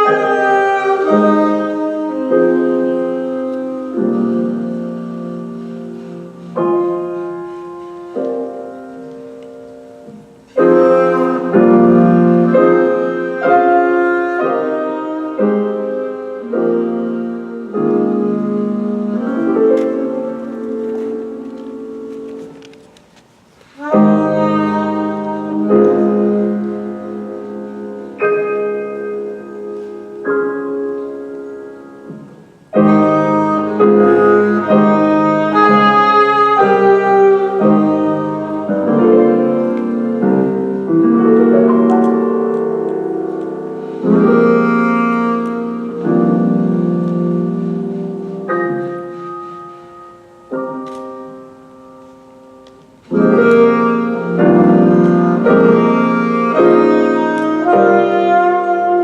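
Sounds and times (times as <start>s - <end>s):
jazz piano playing: 0.0s - 59.0s.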